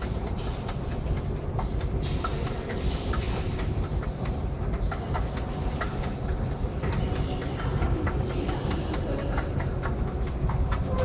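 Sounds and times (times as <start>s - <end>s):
escalator mechanical rumble: 0.0s - 11.0s.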